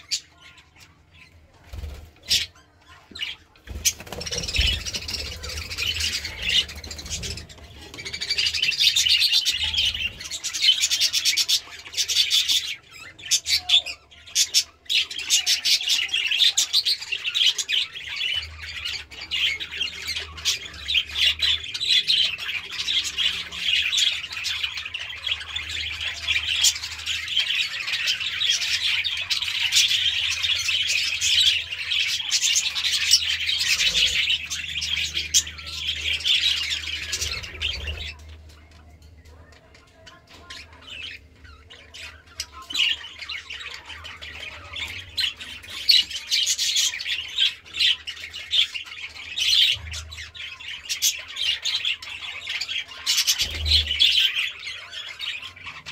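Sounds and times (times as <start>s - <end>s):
budgerigars chattering: 2.2s - 38.4s, 39.6s - 55.9s.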